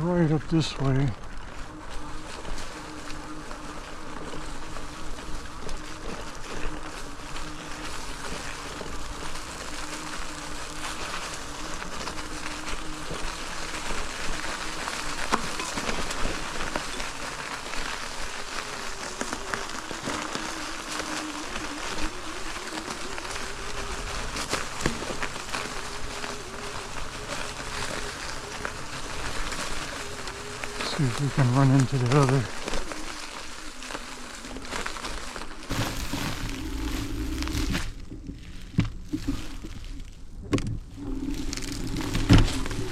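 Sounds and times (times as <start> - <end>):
small rattles and clicks: 0.0 - 42.9
tyres rushing on sandy trail: 0.0 - 42.9
motor whine wavering in pitch: 1.2 - 42.9.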